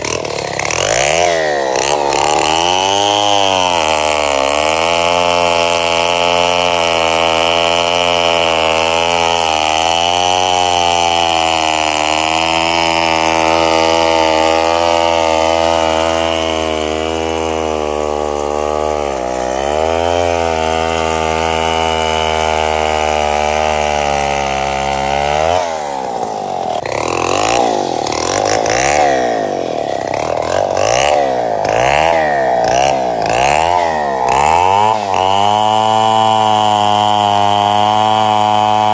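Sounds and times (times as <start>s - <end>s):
chainsaw running: 0.0s - 38.9s.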